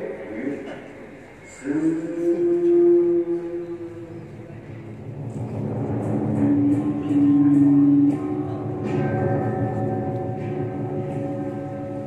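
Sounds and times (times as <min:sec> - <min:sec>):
traditional music long held tone: 0:01.5 - 0:12.0.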